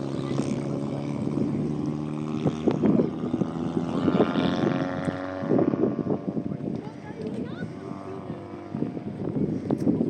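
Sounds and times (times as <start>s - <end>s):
car engine humming: 0.0s - 10.0s
road noise: 0.0s - 10.0s.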